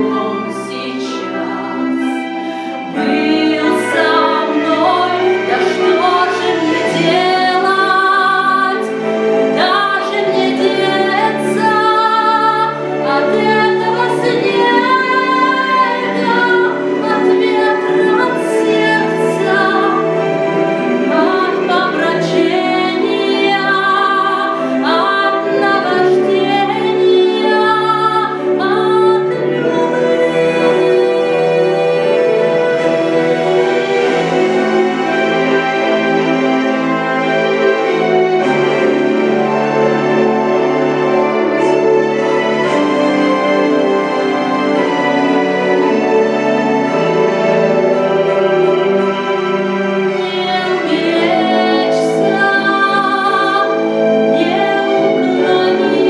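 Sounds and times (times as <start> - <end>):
female choir singing slow song: 0.0 - 56.0.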